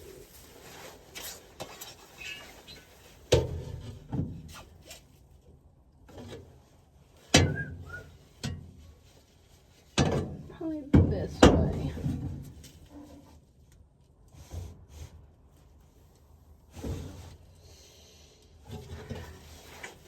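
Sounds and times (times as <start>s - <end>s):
quiet rubbing and rustling: 0.0s - 7.3s, 8.2s - 17.7s, 18.5s - 20.0s.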